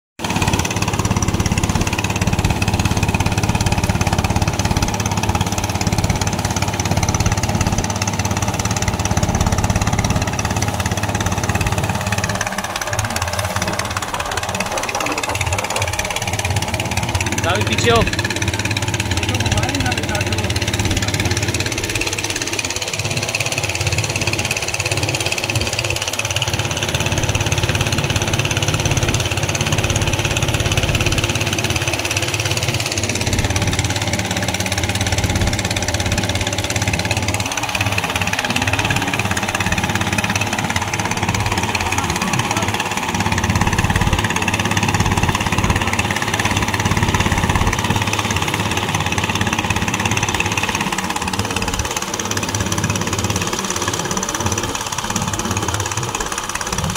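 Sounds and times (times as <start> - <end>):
boat motor running: 0.2 - 56.9
wind: 0.2 - 56.9.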